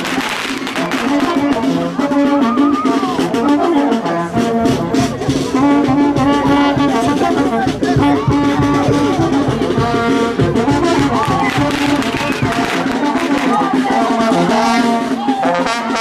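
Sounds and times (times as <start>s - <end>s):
brass band playing a march: 0.0s - 16.0s
low drum beat: 0.0s - 16.0s.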